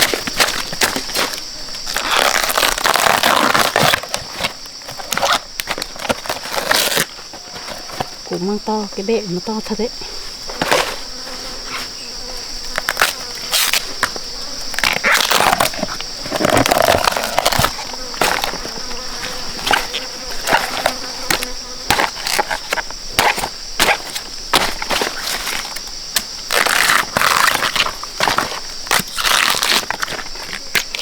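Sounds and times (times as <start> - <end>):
crunching: 0.0 - 8.2, 10.5 - 31.0
forest insects droning: 0.0 - 31.0.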